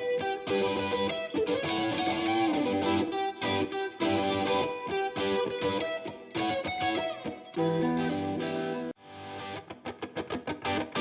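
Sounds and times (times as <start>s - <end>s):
distorted electric guitar music: 0.0s - 11.0s.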